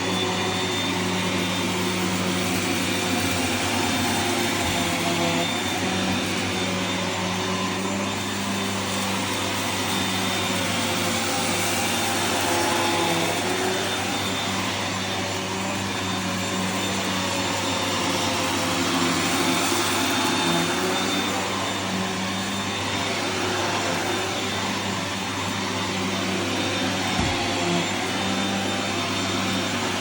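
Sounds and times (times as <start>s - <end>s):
vacuum cleaner running on carpet: 0.0s - 30.0s.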